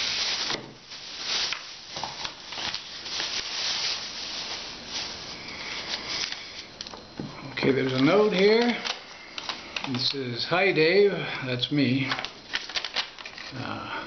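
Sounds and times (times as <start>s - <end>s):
plastic bag crinkling: 0.0s - 6.9s, 7.6s - 10.2s, 11.9s - 13.7s.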